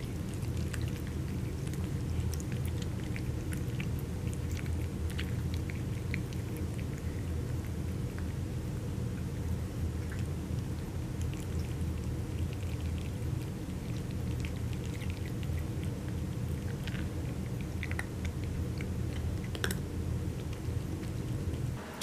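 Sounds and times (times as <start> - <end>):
cats chewing and licking food: 0.0 - 21.8
steady low hum: 0.0 - 22.0.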